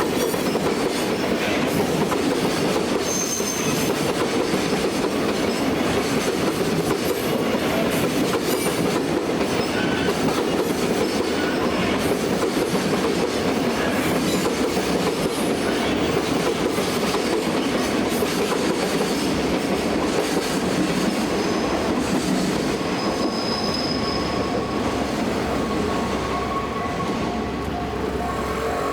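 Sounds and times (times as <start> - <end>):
electric train rumbling past: 0.0 - 28.9.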